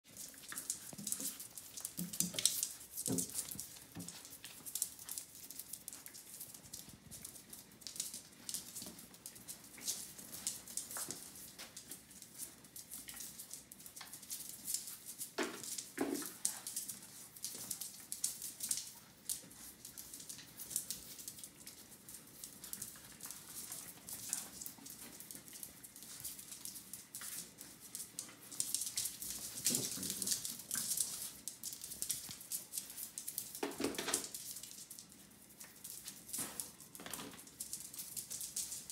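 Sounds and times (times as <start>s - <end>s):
puppy claws scrabbling on floor: 0.1s - 38.9s.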